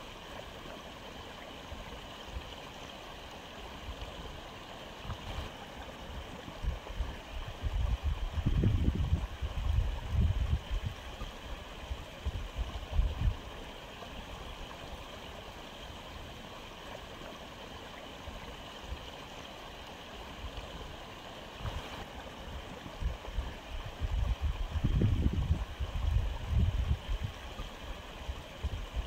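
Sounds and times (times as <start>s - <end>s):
water trickling and gurgling: 0.0s - 29.0s.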